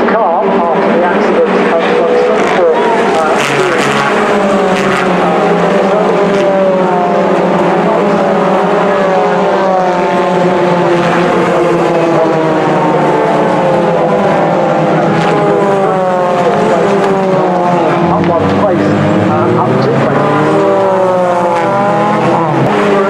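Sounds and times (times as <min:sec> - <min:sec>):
racing car engines passing: 0:00.0 - 0:23.0.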